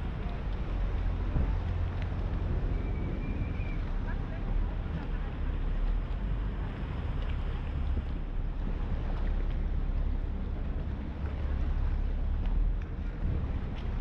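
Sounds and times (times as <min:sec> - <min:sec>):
ferry engine low rumble: 0:00.0 - 0:14.0
wind buffeting microphone: 0:00.0 - 0:14.0.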